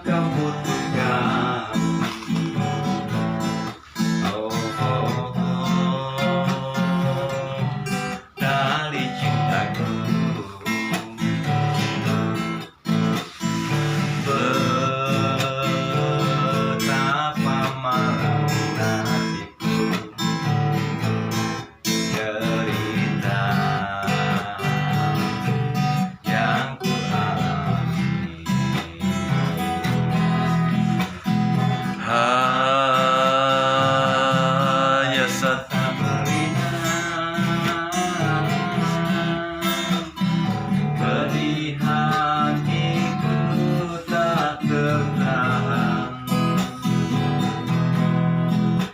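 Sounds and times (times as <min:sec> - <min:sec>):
acoustic guitar strummed and picked: 0:00.0 - 0:48.9.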